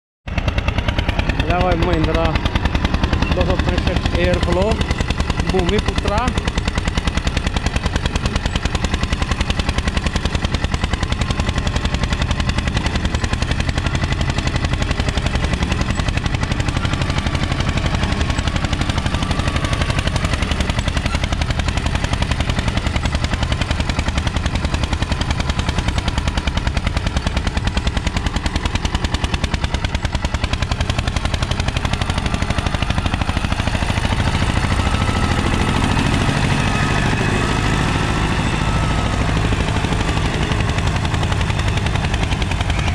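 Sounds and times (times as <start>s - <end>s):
tractor diesel engine under load: 0.2s - 42.9s.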